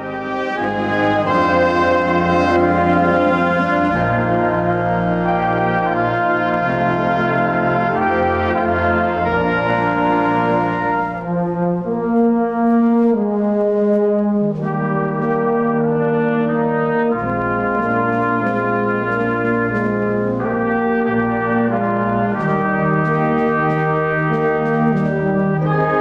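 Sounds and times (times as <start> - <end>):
brass band playing slow chords: 0.0 - 26.0.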